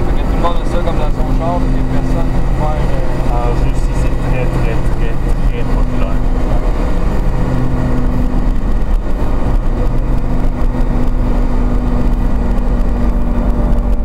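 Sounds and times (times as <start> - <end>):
car engine running: 0.0 - 14.0
road and wind rumble: 0.0 - 14.0.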